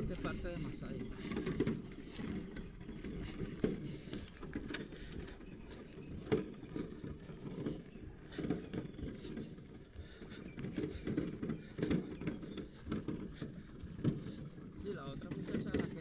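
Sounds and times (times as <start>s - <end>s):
wheelbarrow rolling and rattling: 0.0s - 16.0s.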